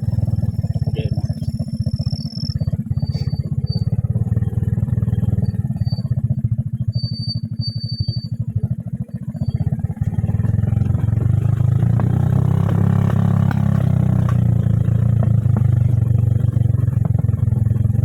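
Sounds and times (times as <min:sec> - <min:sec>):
motorcycle engine under load: 0:00.0 - 0:18.0.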